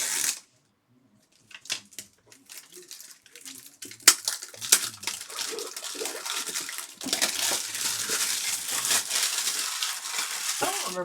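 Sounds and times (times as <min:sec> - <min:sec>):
foil wrappers crinkling: 0:00.0 - 0:00.4, 0:01.3 - 0:11.0.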